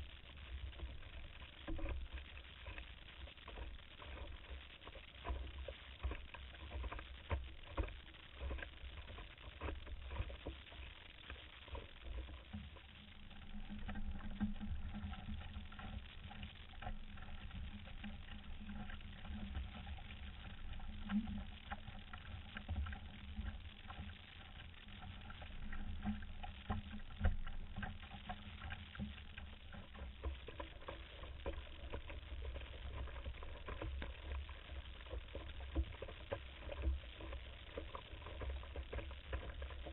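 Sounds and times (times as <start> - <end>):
steady low hum: 0.0 - 39.9
water rushing along a hull: 0.0 - 39.9.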